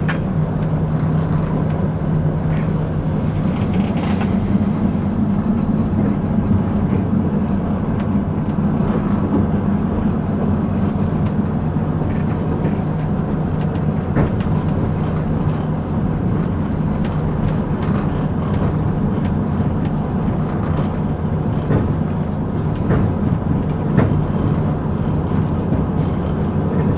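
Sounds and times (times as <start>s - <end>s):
train low rumble: 0.0s - 26.9s.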